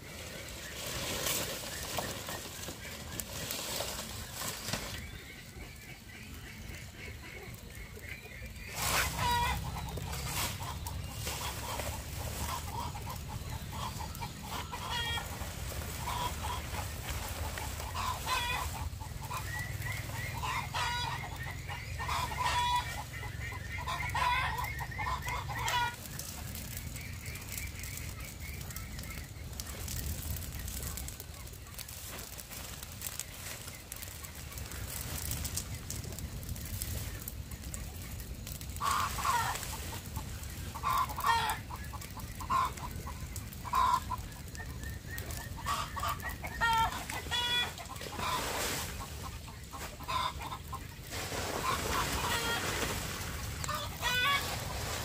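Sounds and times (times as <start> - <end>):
burning thatch crackling: 0.0 - 55.0
chickens clucking: 0.0 - 55.0.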